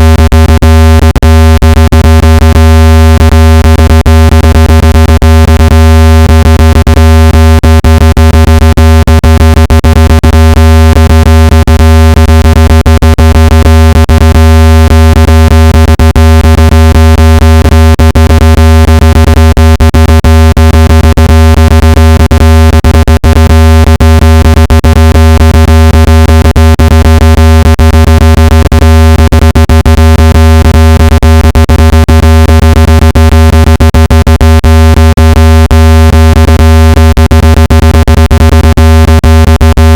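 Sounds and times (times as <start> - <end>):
low-pitched buzzing tone: 0.0 - 39.9.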